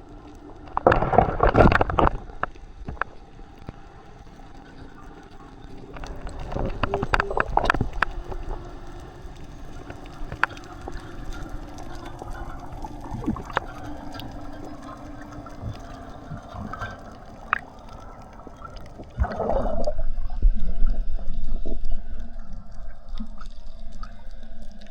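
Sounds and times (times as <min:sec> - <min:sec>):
underwater clicks: 0:00.0 - 0:20.0
gurgling rush of water: 0:00.0 - 0:20.1
faint steady hum: 0:00.0 - 0:24.9
low underwater wash: 0:00.0 - 0:24.9.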